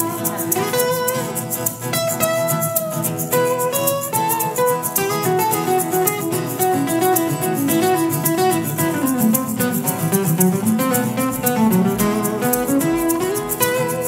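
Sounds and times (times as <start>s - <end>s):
acoustic guitar playing: 0.0s - 14.0s
shaker rhythm: 0.0s - 14.0s.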